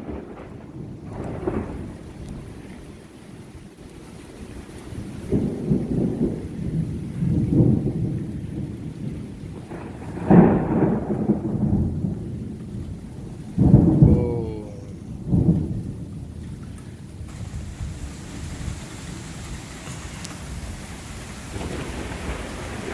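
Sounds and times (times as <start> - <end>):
thunder rumbling and cracking: 0.0 - 2.9, 5.0 - 22.9
steady rain: 0.0 - 22.9.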